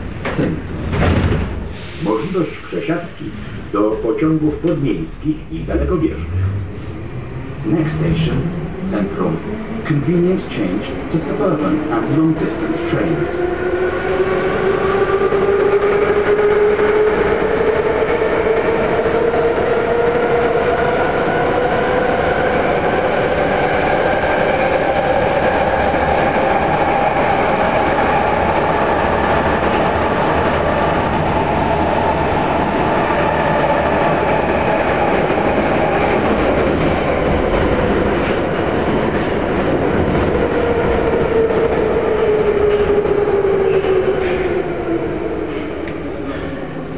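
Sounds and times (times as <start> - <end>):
wheels rumbling on rail: 0.0 - 46.9.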